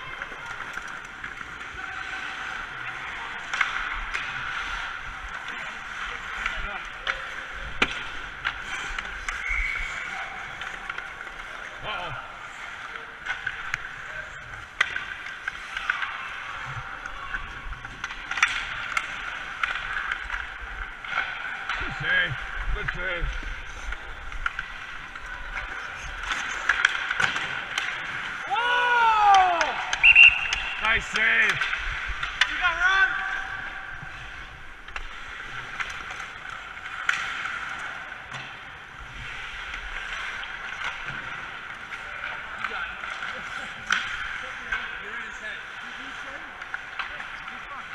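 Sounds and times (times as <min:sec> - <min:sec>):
hockey sticks clacking: 0:00.0 - 0:47.9
skate blades scraping ice: 0:00.0 - 0:47.9.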